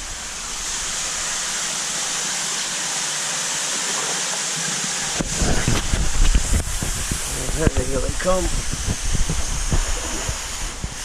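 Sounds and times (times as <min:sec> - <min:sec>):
rushing splashing water: 0:00.0 - 0:11.0.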